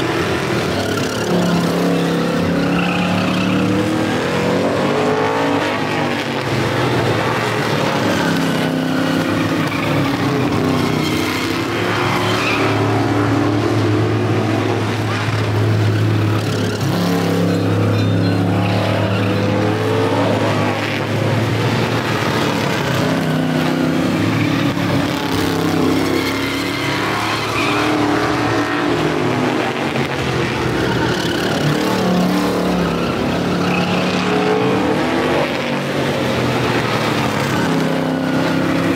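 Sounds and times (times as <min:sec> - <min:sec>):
race car engines passing by: 0:00.0 - 0:38.9.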